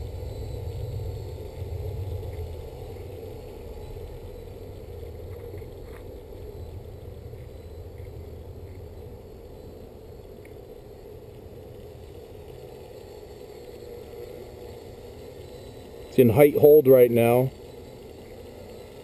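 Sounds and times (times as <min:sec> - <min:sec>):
drone motors humming: 0:00.0 - 0:19.0.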